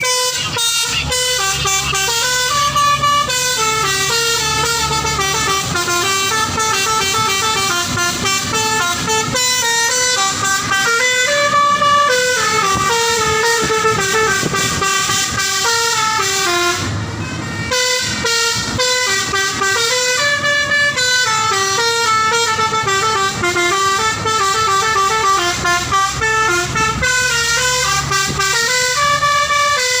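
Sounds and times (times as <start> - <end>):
musical truck horn: 0.0 - 30.0.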